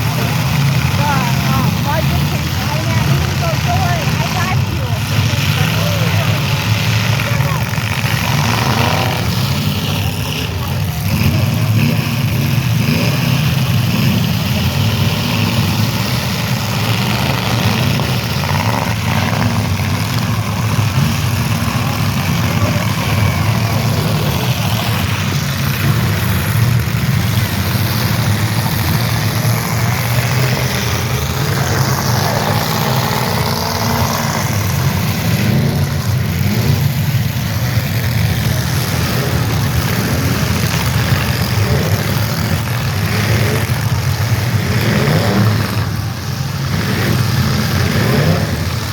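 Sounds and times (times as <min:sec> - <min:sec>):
car engines revving: 0:00.0 - 0:48.9.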